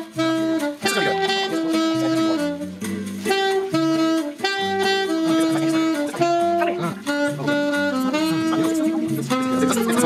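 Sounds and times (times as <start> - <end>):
saxophone bossa nova melody: 0.0 - 10.0.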